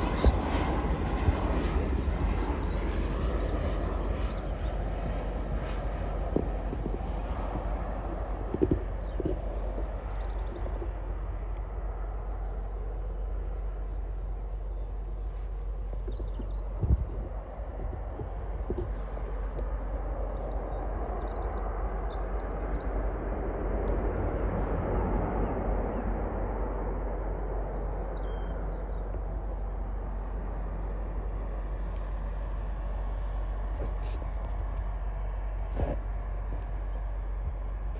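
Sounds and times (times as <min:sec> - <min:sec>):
jet engines roaring: 0:00.0 - 0:37.9.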